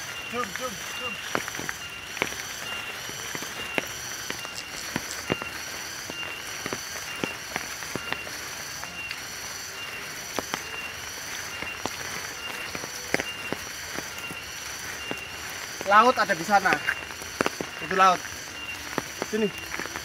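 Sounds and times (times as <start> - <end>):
footsteps on muddy dirt trail: 0.0 - 20.0
insects chirring: 0.0 - 20.0.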